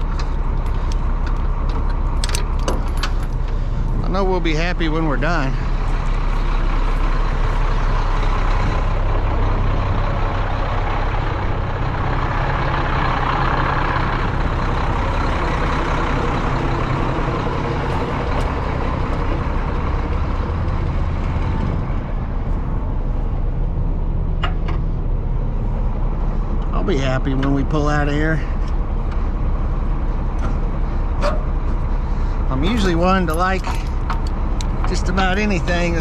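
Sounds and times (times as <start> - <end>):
diesel truck engine running: 0.0 - 36.0
road noise: 0.0 - 36.0.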